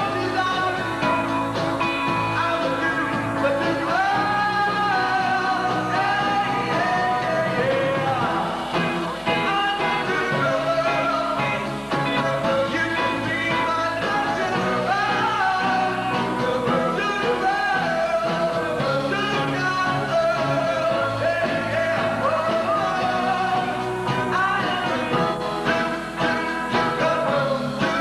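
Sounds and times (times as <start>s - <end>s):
live band playing: 0.0s - 28.0s
man singing rock and roll: 0.0s - 28.0s.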